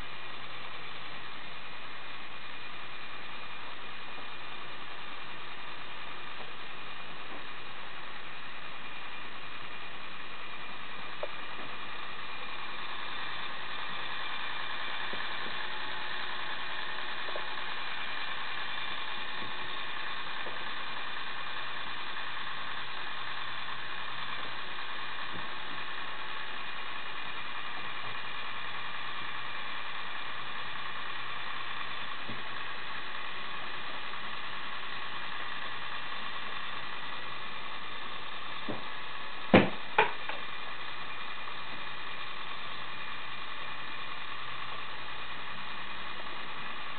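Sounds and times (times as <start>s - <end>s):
electric motor and gears whirring: 0.0s - 46.9s.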